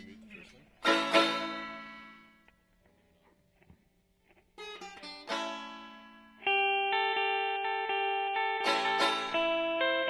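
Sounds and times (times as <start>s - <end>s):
guitar chords: 0.0s - 10.0s.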